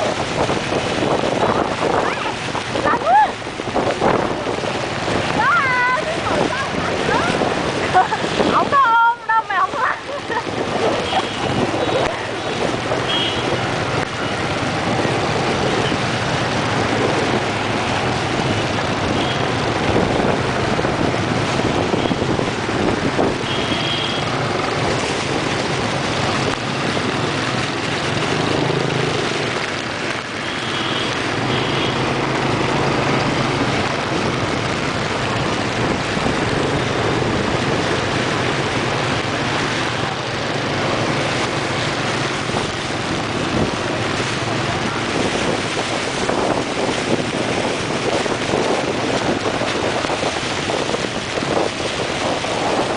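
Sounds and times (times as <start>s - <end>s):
wind and tyres on wet road: 0.0s - 52.9s.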